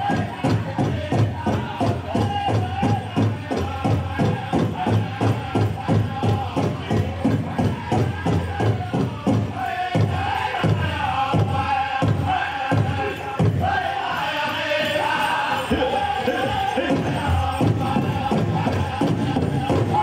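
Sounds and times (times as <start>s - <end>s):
big drum beating: 0.0s - 14.2s, 15.1s - 20.0s
chorus of high-pitched chanting: 0.0s - 20.0s.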